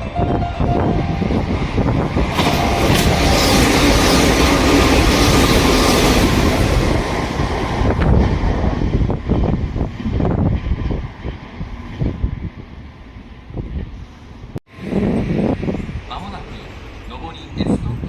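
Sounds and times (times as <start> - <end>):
electric train rushing past: 0.0 - 18.0.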